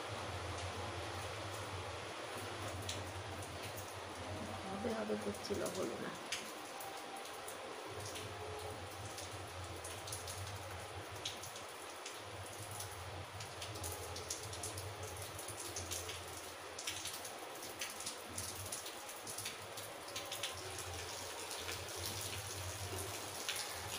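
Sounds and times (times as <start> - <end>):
rain hiss: 0.0 - 23.9
raindrop ticks: 2.3 - 23.9.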